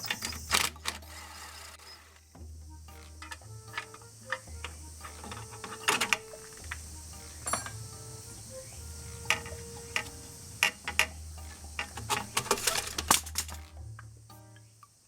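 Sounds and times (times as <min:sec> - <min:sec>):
music: 0:00.0 - 0:15.0
sharp clicks and knocks: 0:00.0 - 0:15.0
steady low hum: 0:00.0 - 0:15.0.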